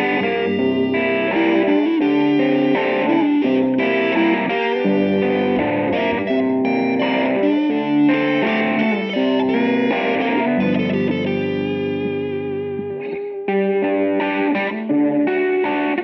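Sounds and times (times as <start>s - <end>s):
electric guitar rock riff: 0.0s - 16.0s.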